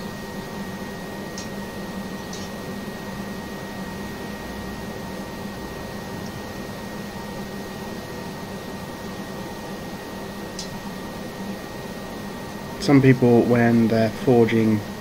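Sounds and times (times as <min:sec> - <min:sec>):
forge blower humming: 0:00.0 - 0:15.0.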